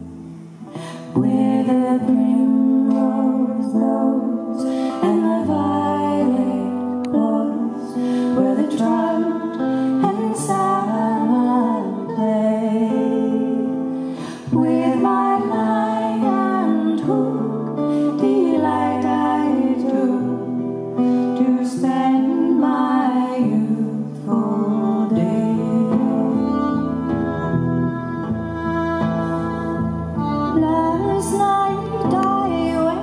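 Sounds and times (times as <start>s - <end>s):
acoustic guitar: 0.0s - 33.0s
bowed fiddle: 0.0s - 33.0s
woman singing: 0.7s - 33.0s.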